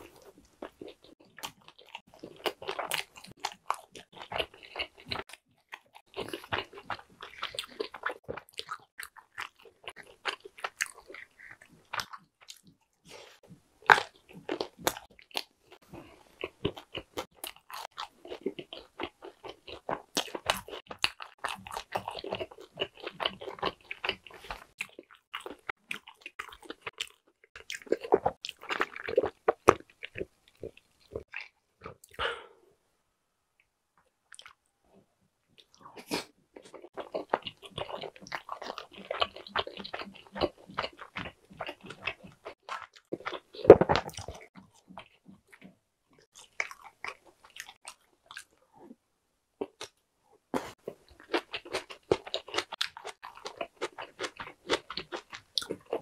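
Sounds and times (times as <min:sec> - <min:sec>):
crunchy biting and chewing: 0:00.0 - 0:32.3, 0:35.6 - 0:48.5, 0:50.6 - 0:56.0.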